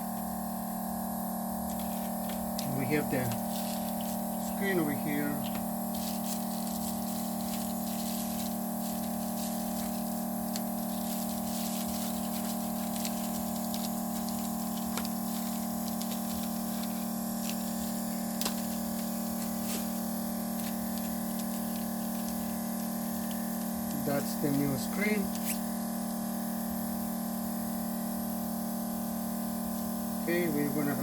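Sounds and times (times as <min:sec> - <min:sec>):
electrical equipment humming: 0:00.0 - 0:31.0.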